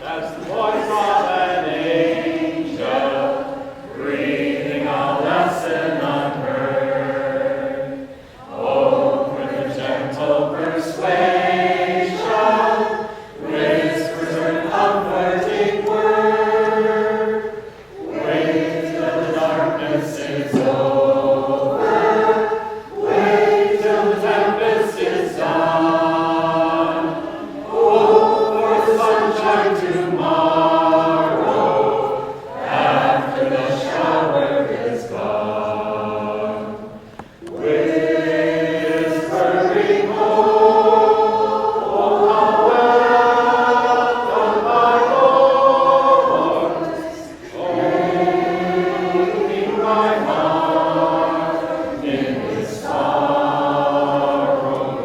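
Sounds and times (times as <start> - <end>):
vocal group singing: 0.0 - 55.0.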